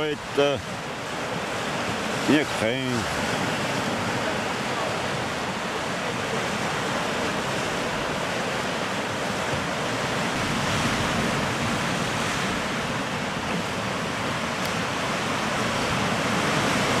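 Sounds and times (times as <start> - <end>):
surf washing over rocks: 0.0 - 17.0.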